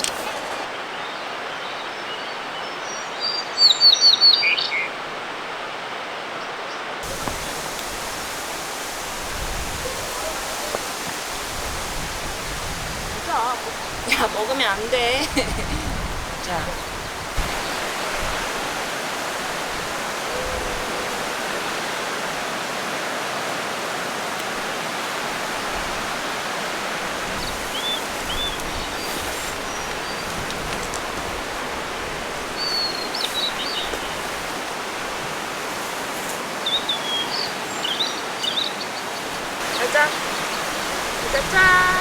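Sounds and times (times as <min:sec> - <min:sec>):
mountain stream rushing: 0:00.0 - 0:42.0.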